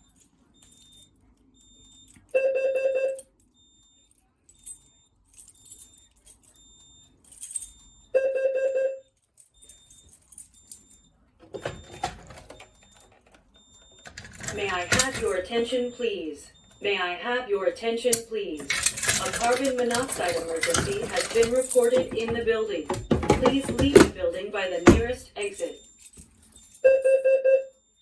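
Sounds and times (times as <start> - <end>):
electronic fire alarm tones: 0.6 - 4.2, 5.8 - 28.0.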